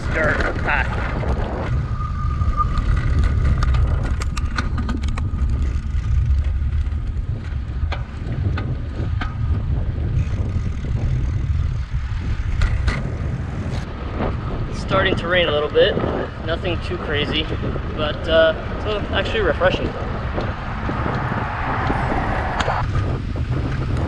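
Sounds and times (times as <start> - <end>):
wind buffeting microphone: 0.0 - 24.0
bicycle clicks and rattles: 2.8 - 22.0, 22.6 - 24.0.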